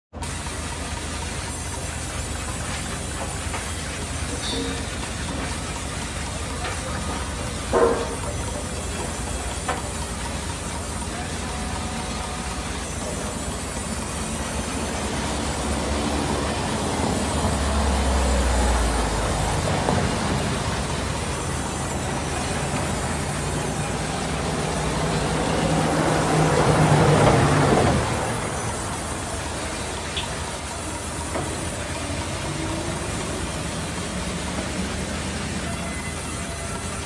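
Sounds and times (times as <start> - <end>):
band saw cutting log: 1.0 - 37.0.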